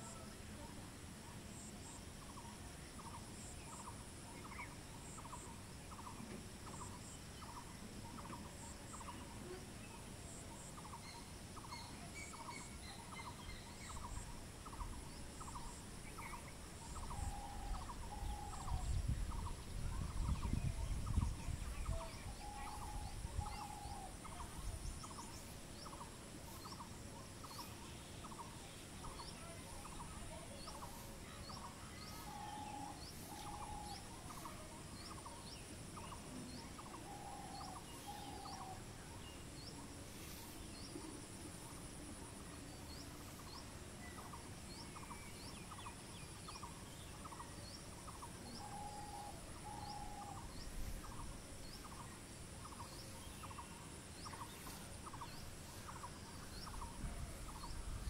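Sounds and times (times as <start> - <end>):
bird chirps: 2.3 - 41.8, 42.4 - 58.0.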